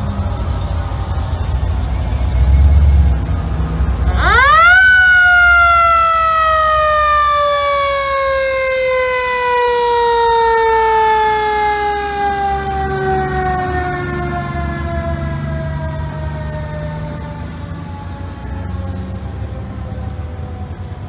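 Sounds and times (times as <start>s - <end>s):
fire engine siren wailing: 0.0s - 21.0s
low rumble of passing vehicles: 0.0s - 21.0s.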